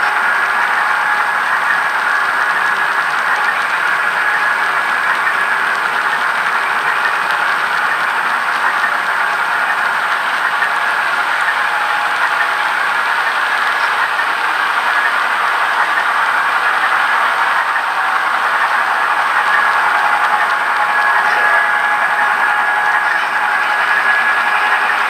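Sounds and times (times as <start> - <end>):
model train cars rolling on track: 0.0 - 25.0.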